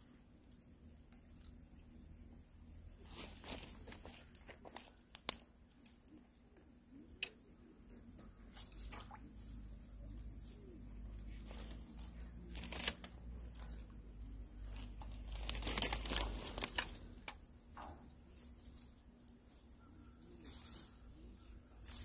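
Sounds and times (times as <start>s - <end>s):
rustling and crinkling: 2.7s - 22.0s.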